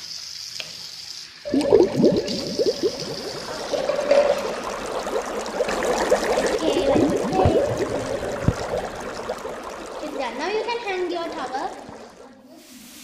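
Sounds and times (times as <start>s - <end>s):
water splashing: 1.5s - 13.0s.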